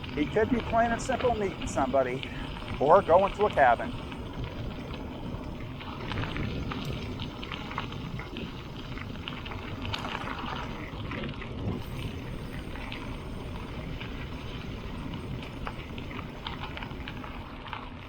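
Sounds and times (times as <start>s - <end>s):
bicycle tyres rolling on gravel: 0.0s - 18.0s
stones crackling under tyres: 0.0s - 18.0s
wind rumble on microphone: 0.0s - 18.0s.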